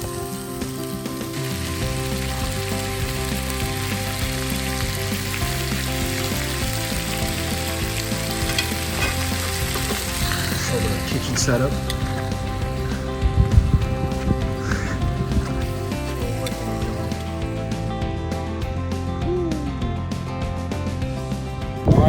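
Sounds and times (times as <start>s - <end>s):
fish sizzling in a pan: 0.0s - 18.0s.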